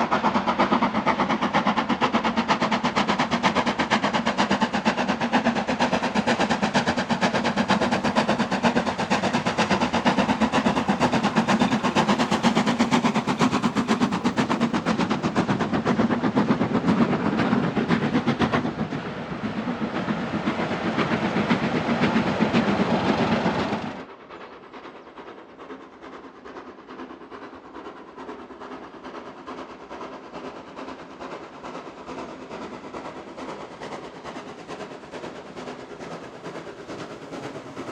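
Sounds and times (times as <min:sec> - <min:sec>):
steam locomotive exhaust beating: 0:00.0 - 0:37.9
train running on: 0:00.0 - 0:37.9.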